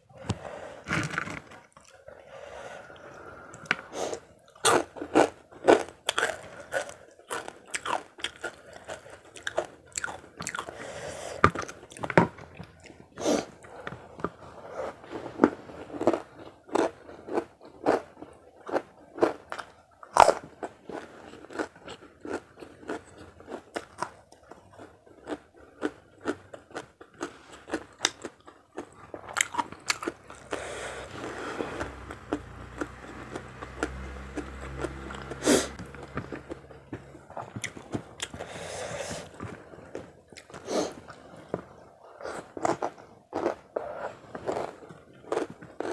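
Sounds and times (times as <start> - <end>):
crunchy food chewing: 2.8 - 45.9.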